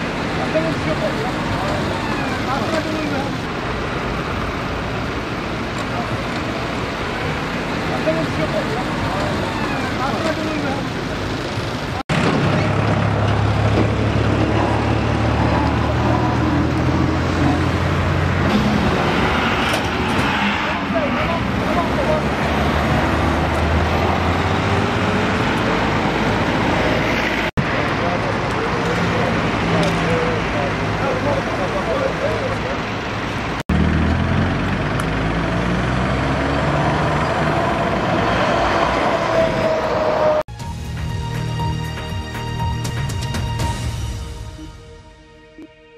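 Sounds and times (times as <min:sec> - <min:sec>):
road traffic noise: 0:00.0 - 0:45.7.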